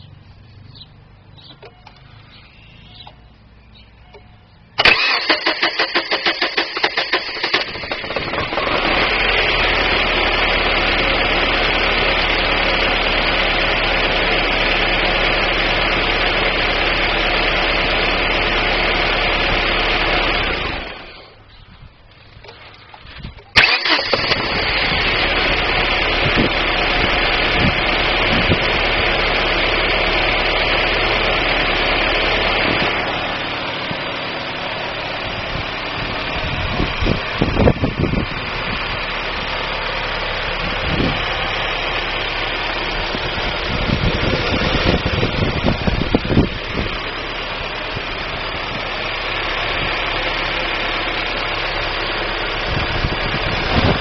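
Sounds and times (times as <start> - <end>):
car engine starting and idling: 0.0 - 54.0.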